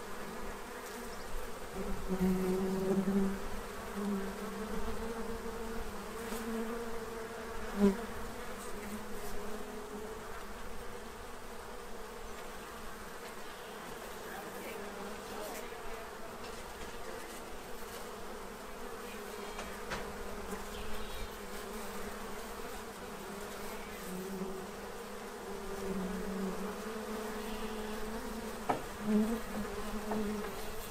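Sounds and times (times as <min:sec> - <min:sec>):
honey bees buzzing: 0:00.0 - 0:30.9.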